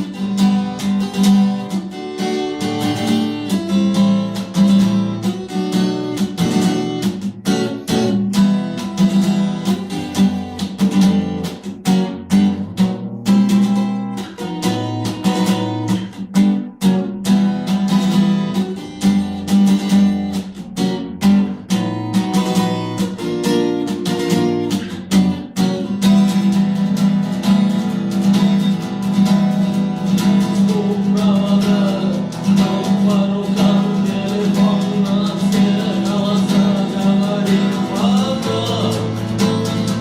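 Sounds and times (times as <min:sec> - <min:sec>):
acoustic guitar strumming: 0:00.0 - 0:40.0
guitar melody line: 0:00.0 - 0:40.0.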